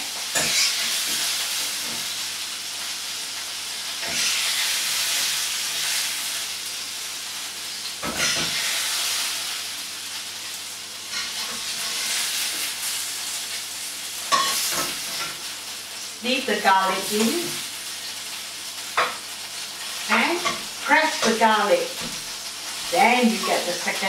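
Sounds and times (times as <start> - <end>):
hot oil sizzling in a wok: 0.0 - 24.0.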